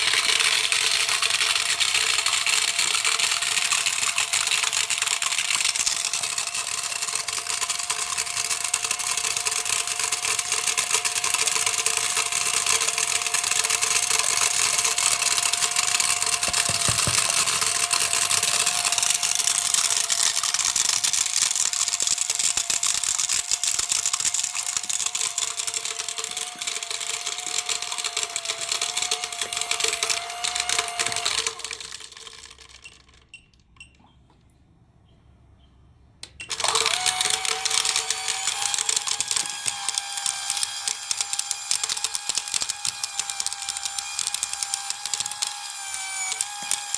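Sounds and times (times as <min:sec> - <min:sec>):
small electric motor whining: 0:00.0 - 0:32.8, 0:36.5 - 0:46.9.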